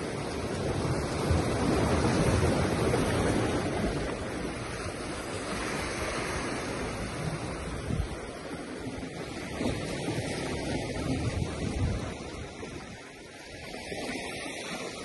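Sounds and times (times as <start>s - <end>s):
waves breaking against rocks: 0.0s - 15.0s.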